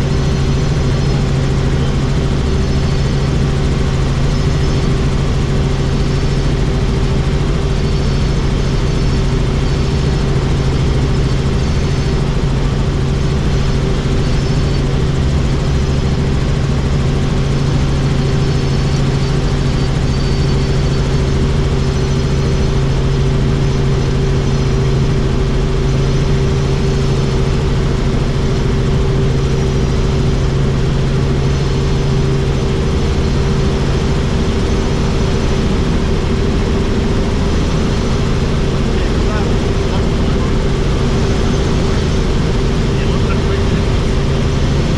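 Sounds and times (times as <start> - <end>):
helicopter engine and rotor drone: 0.0 - 44.9.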